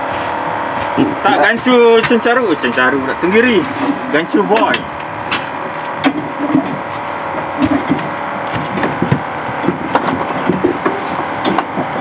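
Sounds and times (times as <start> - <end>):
knocks and clatter on boat: 0.8 - 2.8, 3.6 - 12.0.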